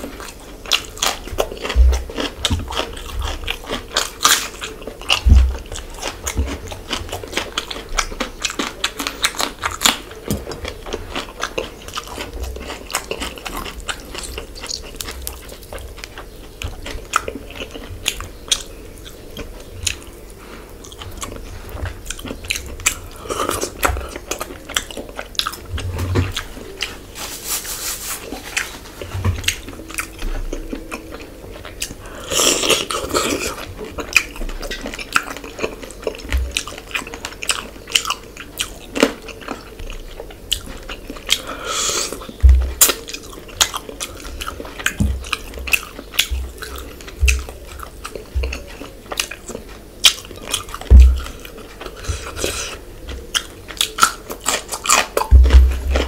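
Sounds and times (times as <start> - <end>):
person chewing and biting: 0.0 - 27.3, 28.2 - 56.0.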